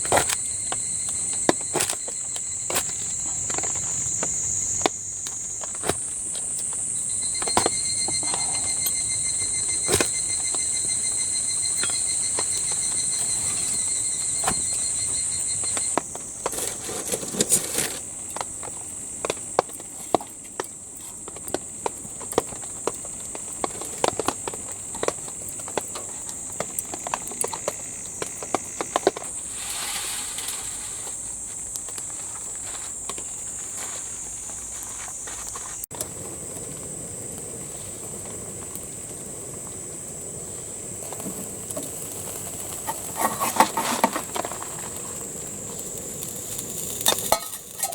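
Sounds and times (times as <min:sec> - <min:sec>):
pulsing insect call: 0:00.0 - 0:17.2, 0:26.4 - 0:47.9
insects shrilling: 0:00.0 - 0:18.8, 0:23.5 - 0:47.9.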